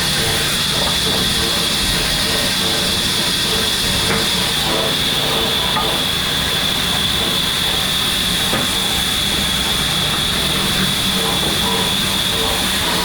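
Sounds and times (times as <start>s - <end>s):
machinery high whine: 0.0s - 13.0s.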